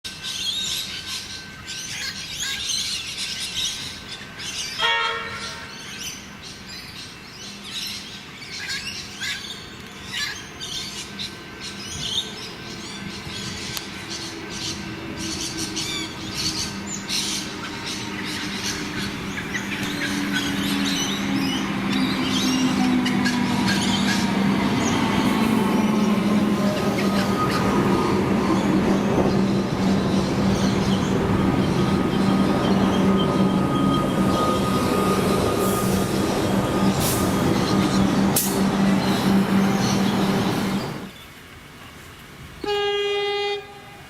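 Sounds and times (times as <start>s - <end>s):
birds chirping: 0.2s - 41.3s.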